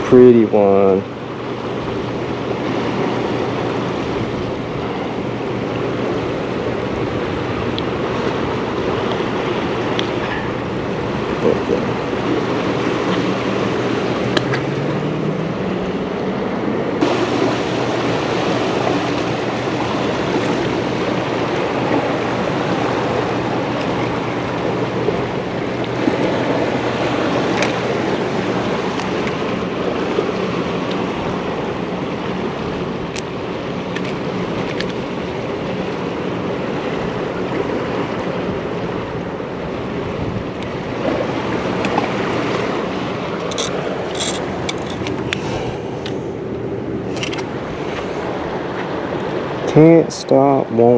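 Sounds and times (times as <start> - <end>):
turbulent water rushing: 0.0 - 50.9.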